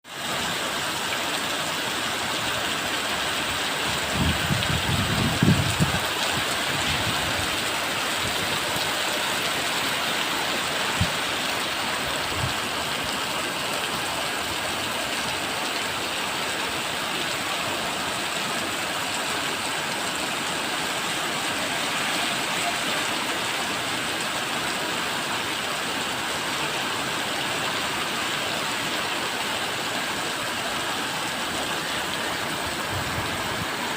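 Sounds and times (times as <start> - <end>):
rain falling steadily: 0.0 - 33.9.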